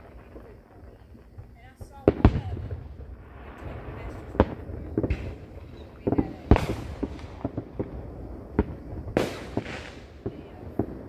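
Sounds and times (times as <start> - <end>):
firework hiss: 0.0 - 11.0
fireworks bangs: 0.0 - 11.0.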